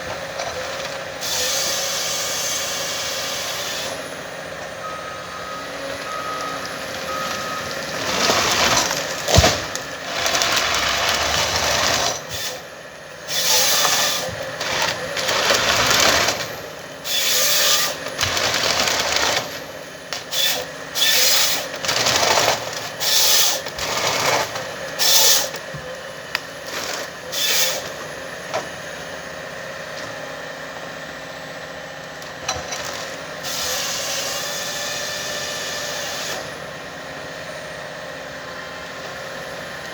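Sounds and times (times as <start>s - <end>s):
harvester machine running: 0.0s - 39.9s.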